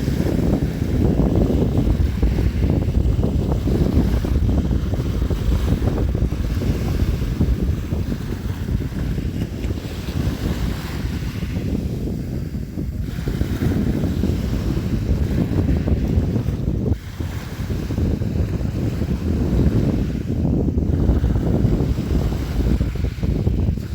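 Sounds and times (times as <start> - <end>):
sea waves splashing: 0.0 - 23.9
wind: 0.0 - 23.9.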